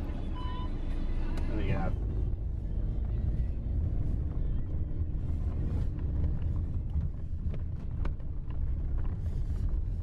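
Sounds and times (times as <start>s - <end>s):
car rolling along dirt track: 1.1s - 10.0s.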